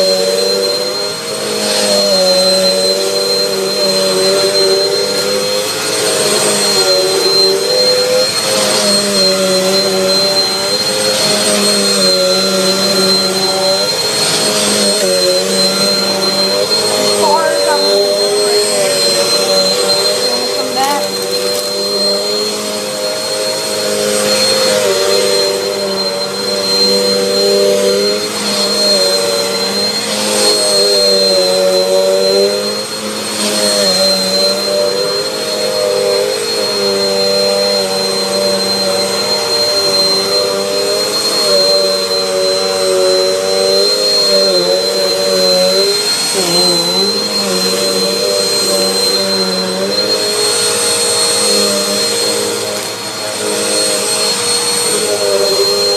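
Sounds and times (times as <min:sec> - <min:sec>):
high-pitched whine: 0:00.0 - 0:55.9
vacuum cleaner motor hum: 0:00.0 - 0:55.9.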